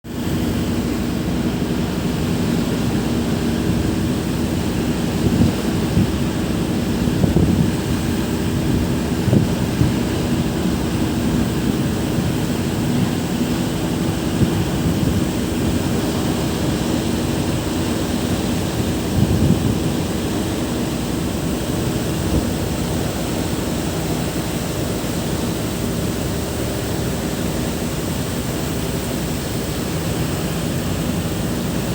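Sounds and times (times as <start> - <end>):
stormy sea: 0.0 - 31.9
wind buffeting microphone: 0.3 - 27.8.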